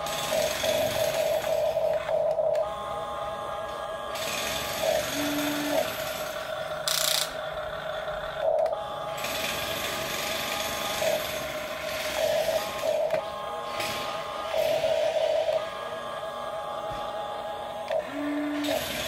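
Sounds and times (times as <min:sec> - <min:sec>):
small electric gear motors whining: 0:00.0 - 0:19.0.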